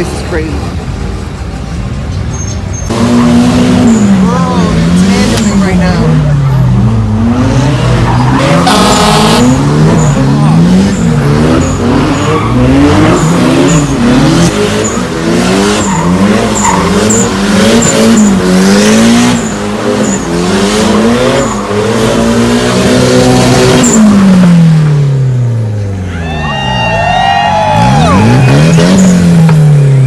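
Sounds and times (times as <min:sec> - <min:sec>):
tyres squealing and skidding: 0:00.0 - 0:24.6, 0:25.8 - 0:30.0
car engine revving: 0:00.0 - 0:26.1, 0:27.5 - 0:30.0.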